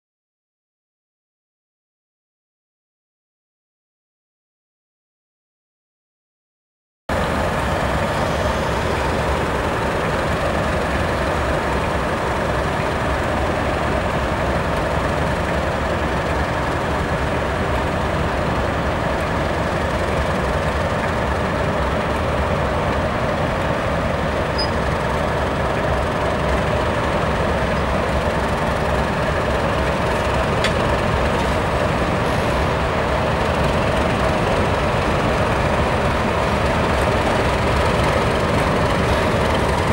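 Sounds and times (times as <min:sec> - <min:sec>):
coaches rumbling along track: 0:07.1 - 0:39.9
diesel locomotive engine running: 0:07.1 - 0:39.9.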